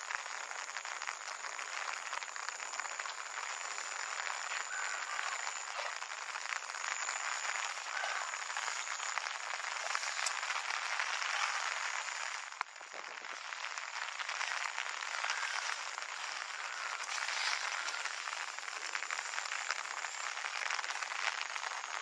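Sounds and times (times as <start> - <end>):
rain pattering on water: 0.0 - 22.0.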